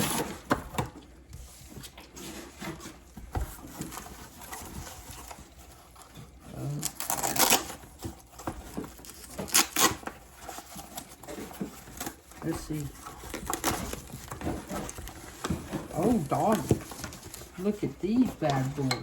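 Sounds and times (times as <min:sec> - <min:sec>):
packaging clicks and rustles: 0:00.0 - 0:19.0.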